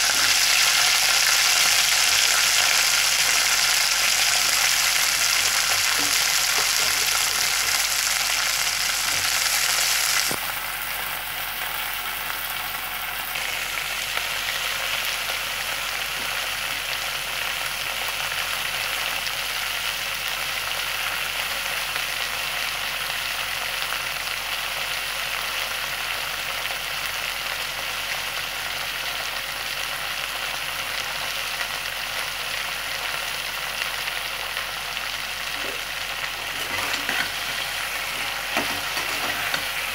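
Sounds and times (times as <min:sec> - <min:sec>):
pods sizzling in a pan: 0:00.0 - 0:39.9.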